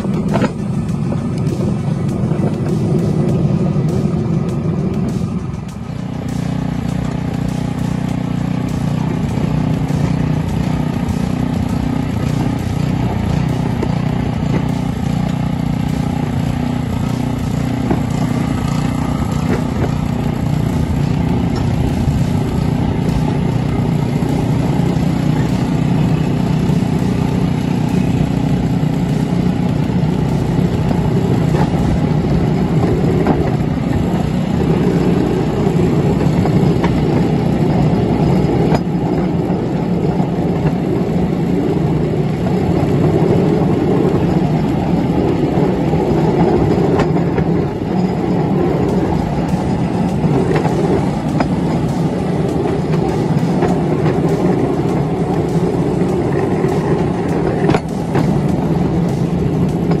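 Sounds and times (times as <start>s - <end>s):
miniature train engine running: 0.0s - 60.0s.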